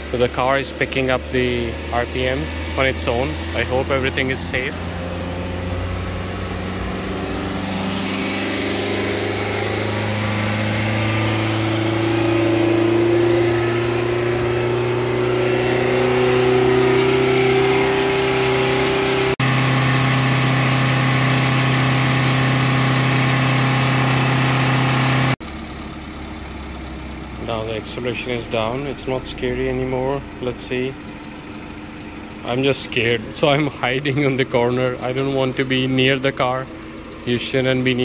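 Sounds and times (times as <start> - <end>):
diesel engine at high revs: 0.0 - 38.0.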